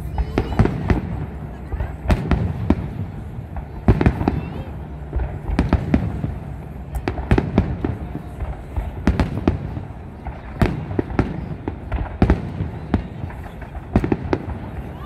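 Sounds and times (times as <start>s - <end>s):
continuous low rumble: 0.0s - 15.0s.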